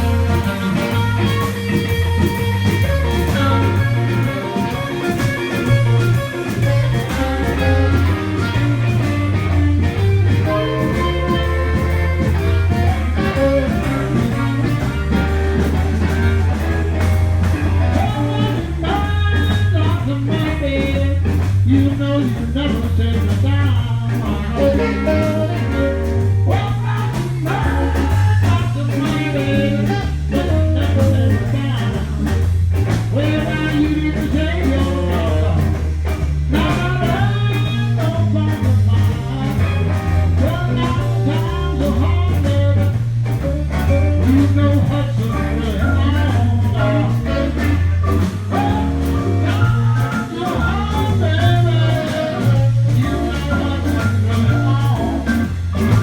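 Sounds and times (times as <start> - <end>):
person singing: 0.0 - 17.1, 17.7 - 32.4, 33.1 - 35.9, 36.5 - 56.0
bass line: 0.0 - 56.0
drum beat: 0.0 - 56.0
electric guitar: 0.0 - 56.0.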